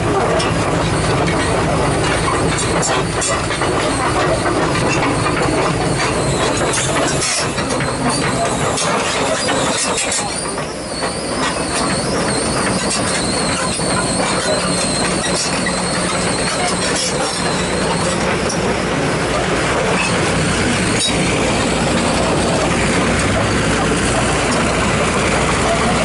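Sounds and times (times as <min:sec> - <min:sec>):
excavator engine rumble: 0:00.0 - 0:26.0
track chain ticking: 0:00.0 - 0:26.0.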